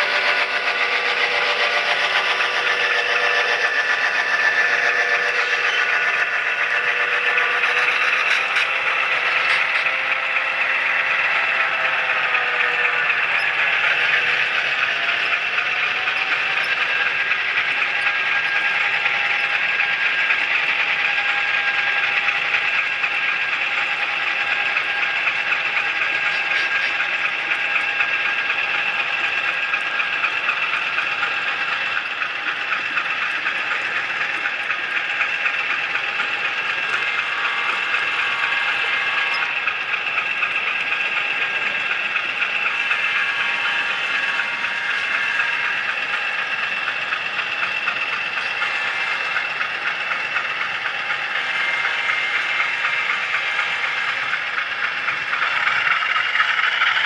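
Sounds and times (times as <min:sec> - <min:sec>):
model train whirring on rails: 0:00.0 - 0:57.0.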